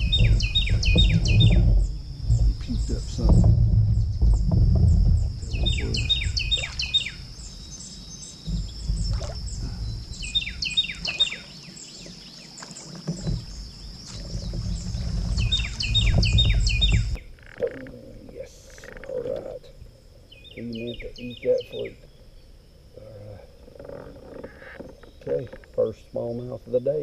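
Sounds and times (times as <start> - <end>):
wind rumbling on microphone: 0.0 - 26.3
songbird singing: 0.0 - 27.0.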